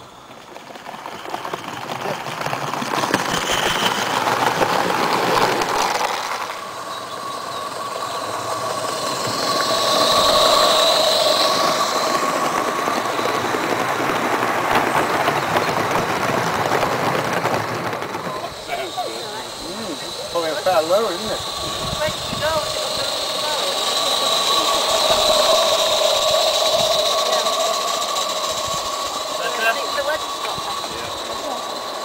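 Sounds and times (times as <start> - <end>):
model steam train running: 0.0 - 32.0
train wheels clattering: 0.0 - 32.0
train wheels squealing: 0.0 - 32.0.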